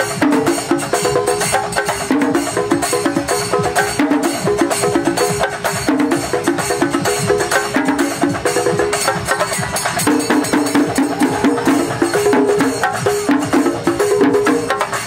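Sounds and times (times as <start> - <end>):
fast dense percussion: 0.0 - 15.0.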